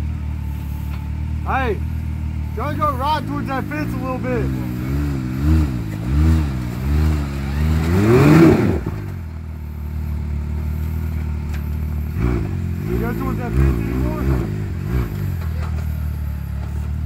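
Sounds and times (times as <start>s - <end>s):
utv engine revving under load: 0.0s - 17.0s.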